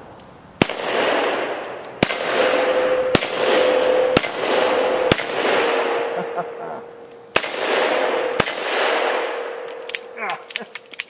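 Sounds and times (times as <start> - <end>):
revolver shots with echo: 0.6 - 10.2
steel target ringing: 1.1 - 10.2.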